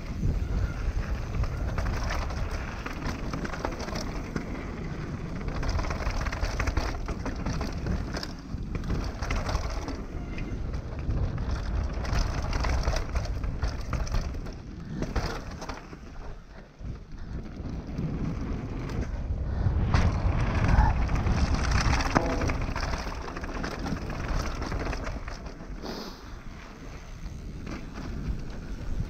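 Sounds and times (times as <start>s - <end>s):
bike chain and frame rattling: 0.0s - 19.3s, 20.0s - 29.0s
wind noise on microphone: 0.0s - 29.0s.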